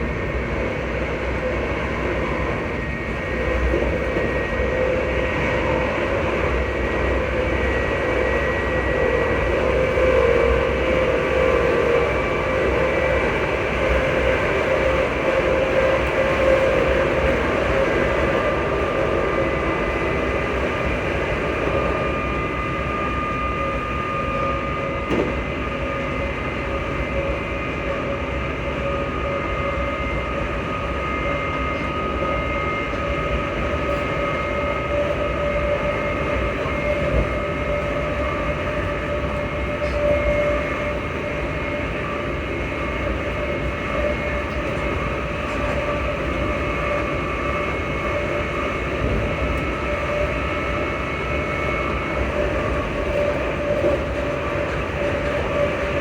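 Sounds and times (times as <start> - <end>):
wheels rumbling on track: 0.0 - 29.2, 29.8 - 56.0
traction motors whining: 0.0 - 56.0.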